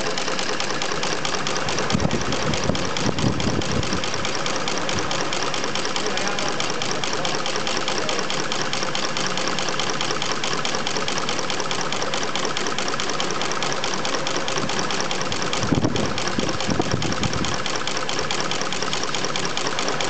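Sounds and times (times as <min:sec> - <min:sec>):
machine mechanical clatter: 0:00.0 - 0:20.0.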